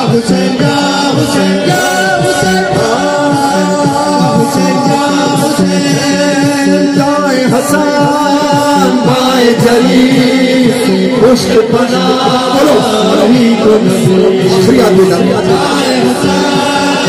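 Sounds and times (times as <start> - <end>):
men chanting: 0.0 - 17.0
steady drum beat: 0.0 - 17.0.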